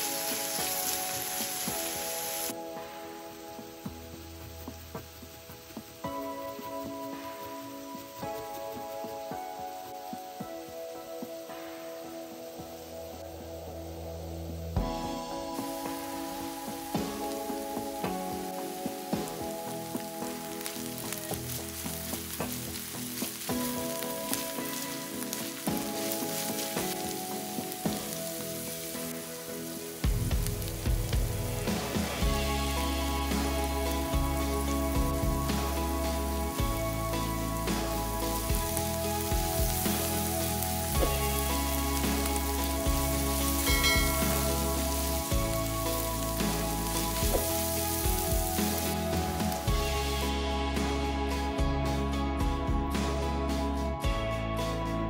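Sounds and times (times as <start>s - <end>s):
meat and onion sizzling in a pan: 0.0s - 54.8s
background music with held notes: 0.0s - 55.0s.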